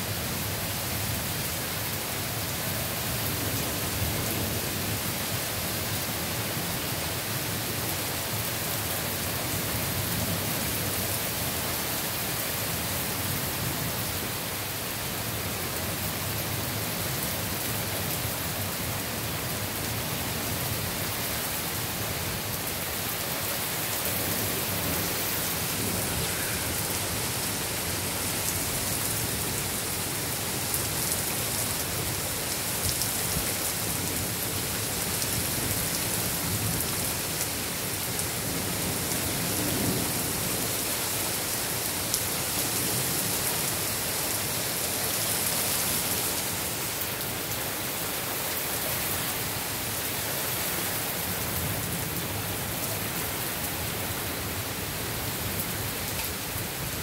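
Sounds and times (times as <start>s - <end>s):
heavy rain hissing: 2.1s - 57.0s.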